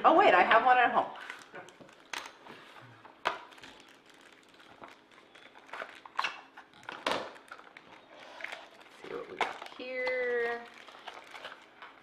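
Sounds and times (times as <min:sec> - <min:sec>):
foil wrappers crinkling: 0:01.2 - 0:12.0.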